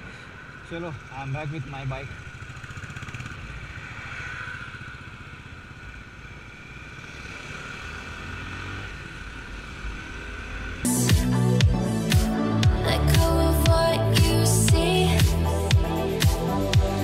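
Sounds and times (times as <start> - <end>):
motorcycle engine running: 0.7 - 17.0.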